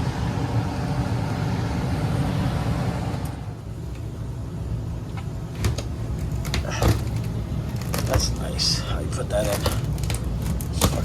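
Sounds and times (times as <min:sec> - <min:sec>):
furnace and air conditioning hum: 0:00.0 - 0:11.0.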